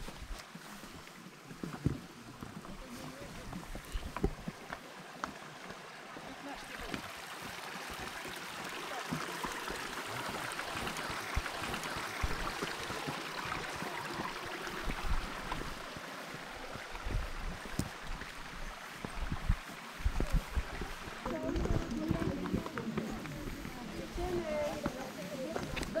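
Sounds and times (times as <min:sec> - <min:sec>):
footsteps on stone path: 0:00.0 - 0:26.0
mountain stream rushing: 0:00.0 - 0:26.0.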